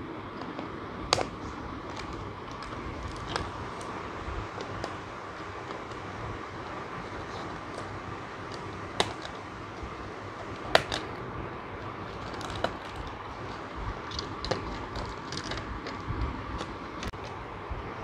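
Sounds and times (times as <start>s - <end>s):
steady background hum: 0.0s - 18.0s
plastic parts clacking: 0.4s - 17.4s.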